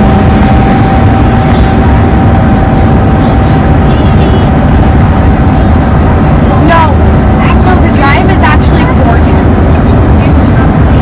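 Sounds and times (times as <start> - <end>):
car road and wind noise: 0.0 - 11.0
steady whining tone: 0.0 - 11.0.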